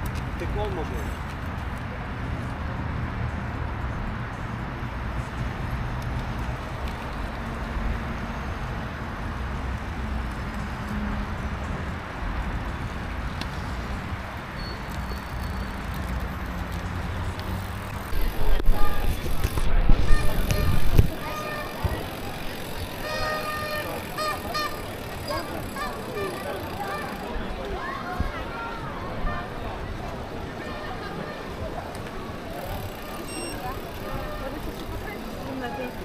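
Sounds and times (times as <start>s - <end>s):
road and wind rumble: 0.0s - 36.0s.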